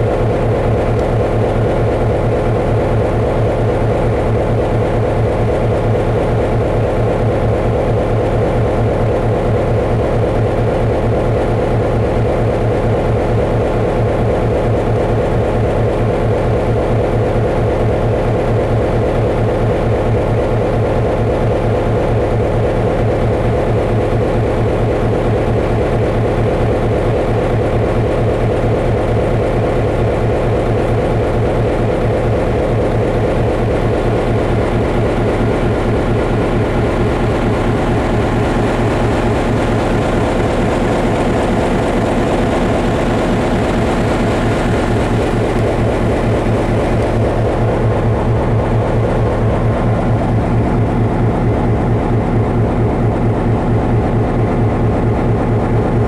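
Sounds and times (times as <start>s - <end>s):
train locomotive droning: 0.0s - 56.0s.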